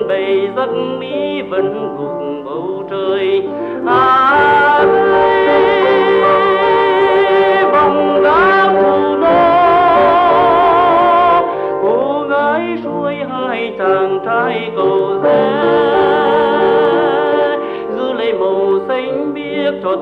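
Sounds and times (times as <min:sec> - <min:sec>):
song with instrumental accompaniment: 0:00.0 - 0:20.0.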